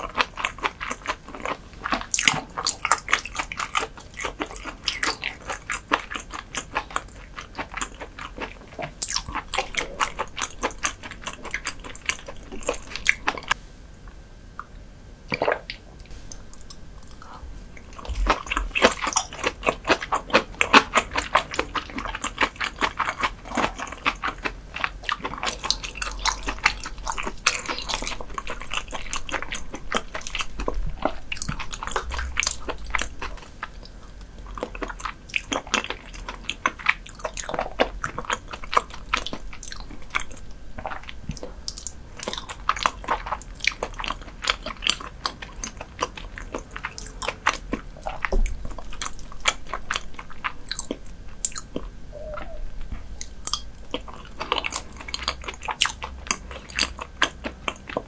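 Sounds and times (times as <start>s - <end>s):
sharp chewing clicks: 0.0s - 13.6s, 15.3s - 58.0s.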